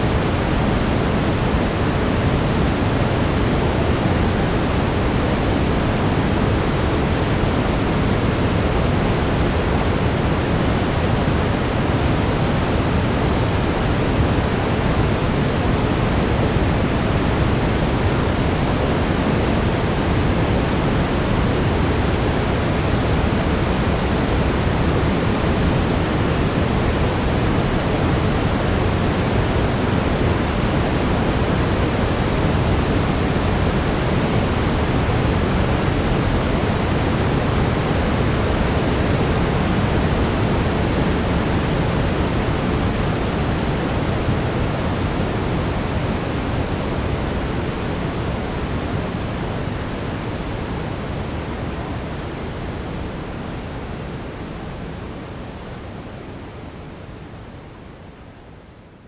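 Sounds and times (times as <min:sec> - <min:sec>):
deep brown noise hiss: 0:00.0 - 0:59.0.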